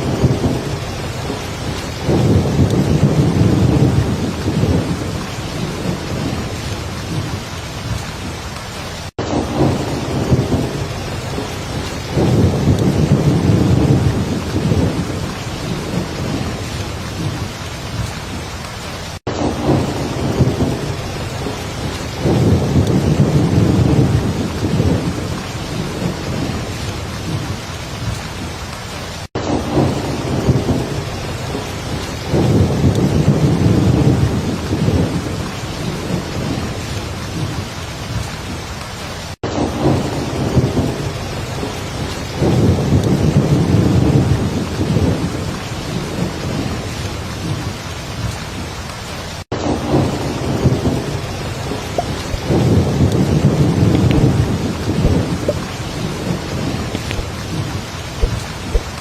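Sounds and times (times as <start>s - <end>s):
low rolling thunder: 0.0s - 18.4s, 19.2s - 28.5s, 29.4s - 38.6s, 39.5s - 48.6s, 49.6s - 59.0s
heavy rain: 0.0s - 59.0s.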